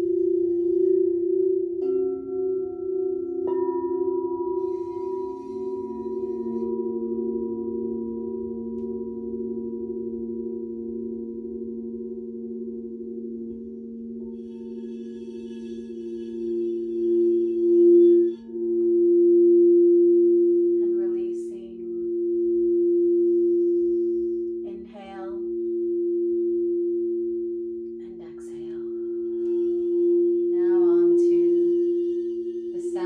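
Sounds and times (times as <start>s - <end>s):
crystal singing bowl ringing: 0.0s - 33.0s.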